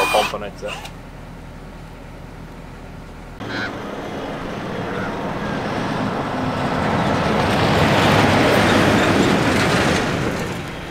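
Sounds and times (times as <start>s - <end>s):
truck passing on road: 1.0s - 10.9s.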